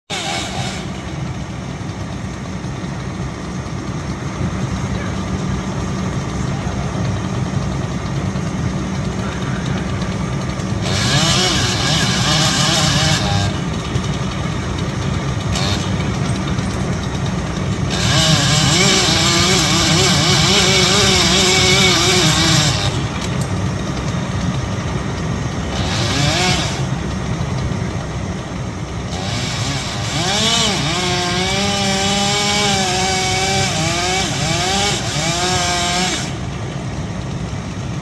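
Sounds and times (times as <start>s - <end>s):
chainsaw cutting: 0.0s - 38.0s
engine running: 0.0s - 38.0s.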